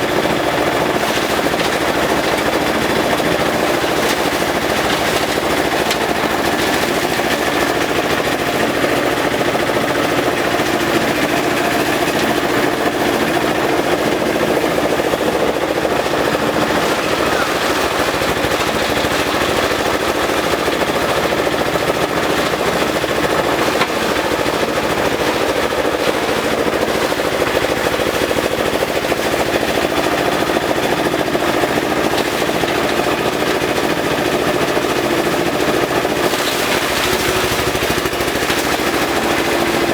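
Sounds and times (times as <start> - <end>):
shredder machine clattering: 0.0 - 39.9.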